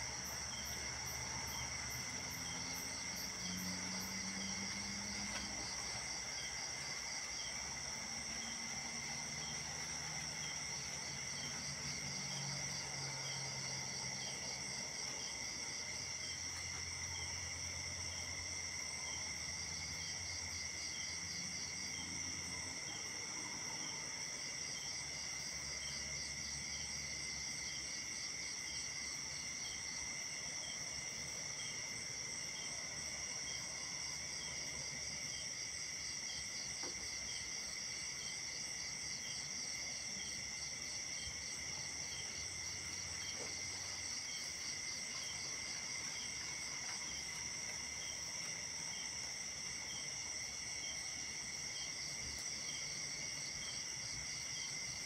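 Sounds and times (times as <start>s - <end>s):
insect chirp: 0.0s - 55.0s.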